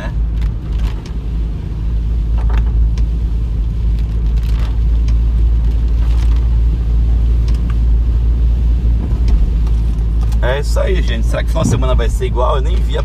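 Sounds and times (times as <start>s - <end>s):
engine and tyres rumbling: 0.0s - 13.0s
rain hissing on wet road: 0.0s - 13.0s.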